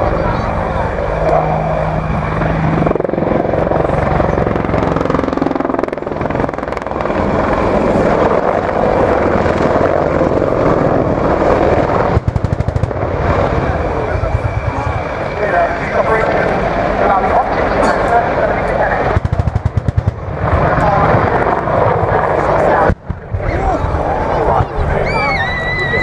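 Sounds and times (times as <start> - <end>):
helicopter rotor and turbine: 0.0 - 26.0.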